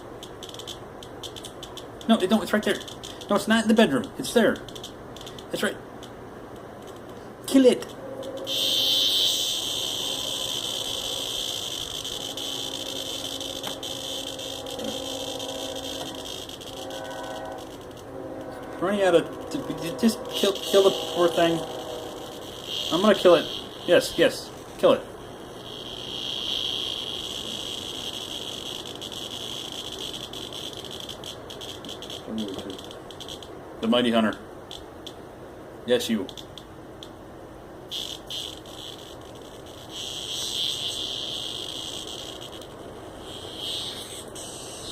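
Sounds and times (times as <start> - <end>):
cicada buzzing: 0.0 - 35.4, 36.1 - 44.9.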